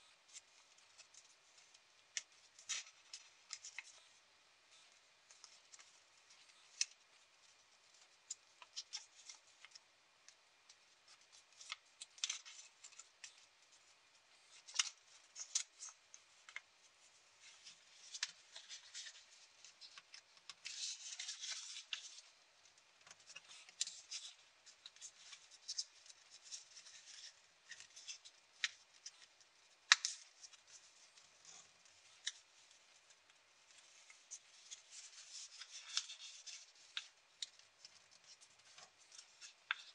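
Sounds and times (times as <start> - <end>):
paper being folded and creased: 0.3 - 39.9.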